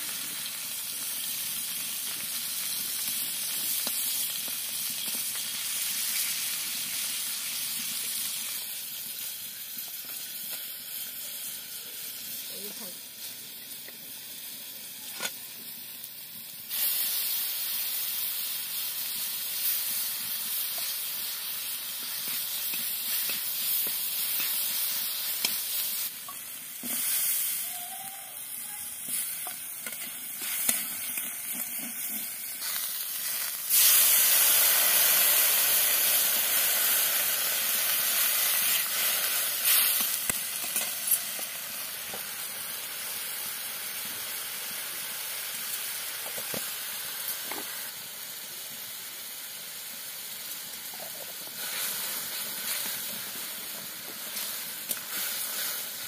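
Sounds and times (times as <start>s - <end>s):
hot oil sizzling: 0.0s - 56.0s.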